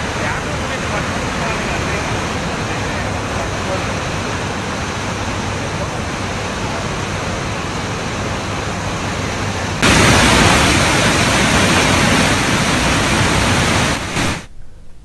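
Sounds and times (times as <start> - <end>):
floodwater rushing through spillway: 0.0 - 14.5.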